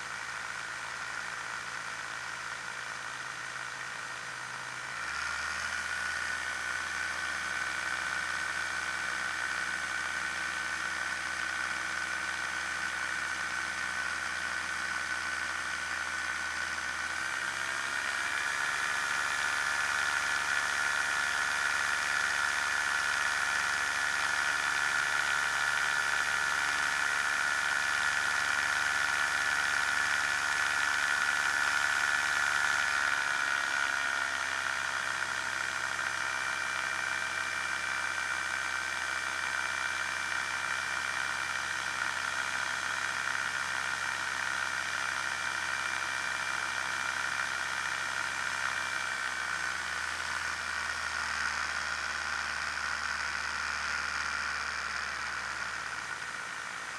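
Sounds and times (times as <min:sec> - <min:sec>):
ultralight plane engine and propeller: 0:00.0 - 0:56.9.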